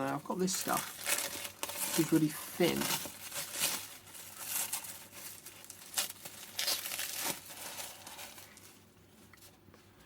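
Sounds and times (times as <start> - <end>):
foam tape crinkling and tearing: 0.0 - 8.8.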